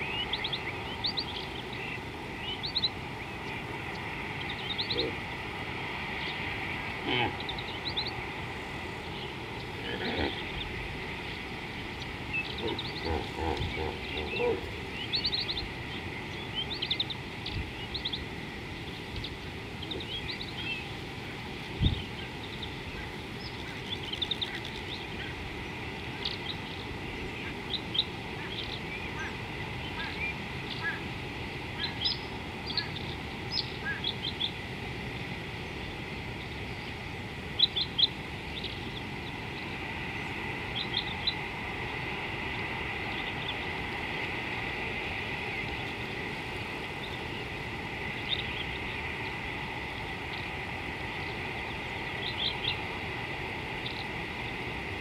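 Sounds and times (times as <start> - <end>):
birds chirping: 0.0 - 54.9
outdoor background noise: 0.0 - 55.0.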